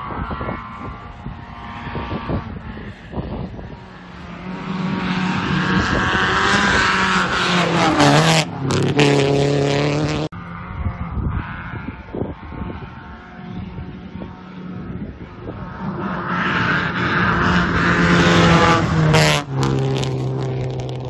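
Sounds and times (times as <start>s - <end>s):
race car engine revving by: 0.4s - 10.4s, 11.4s - 21.0s.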